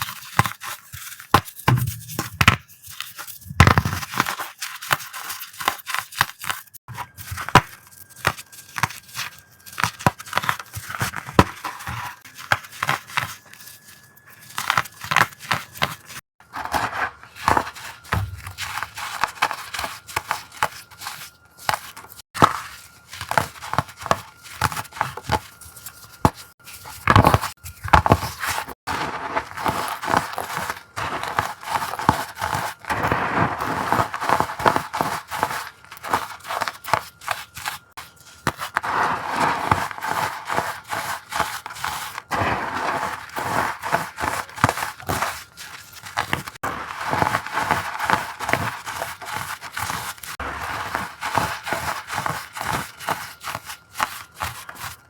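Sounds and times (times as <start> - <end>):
crushing powder blocks crackling: 2.9 - 55.0.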